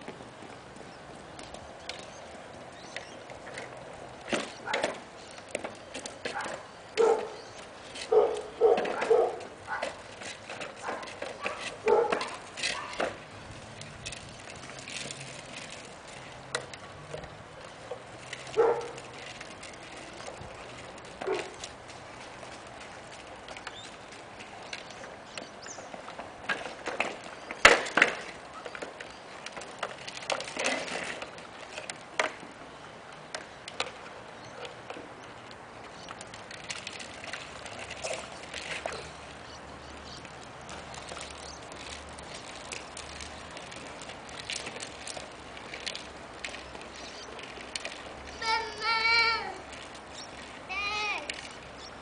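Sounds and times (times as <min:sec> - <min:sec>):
plastic wheels rattling on concrete: 0:00.0 - 0:52.0.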